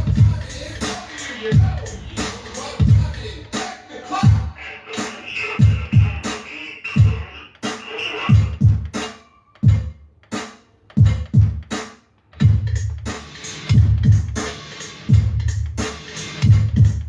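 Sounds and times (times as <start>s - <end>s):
electronic drum beat: 0.0s - 17.0s.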